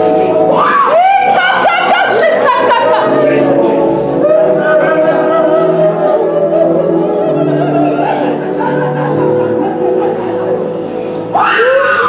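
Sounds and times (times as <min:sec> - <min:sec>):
group of voices singing: 0:00.0 - 0:11.7.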